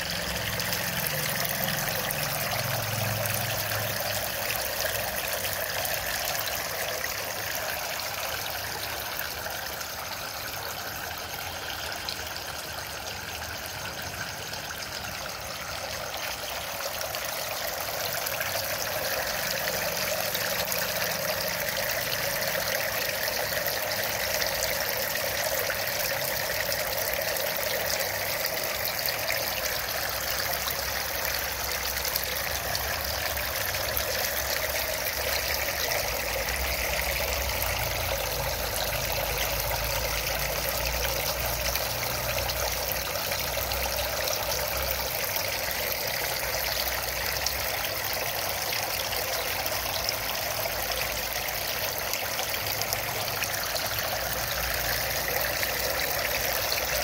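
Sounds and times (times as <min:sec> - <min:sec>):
fountain water splashing into basin: 0:00.0 - 0:57.0.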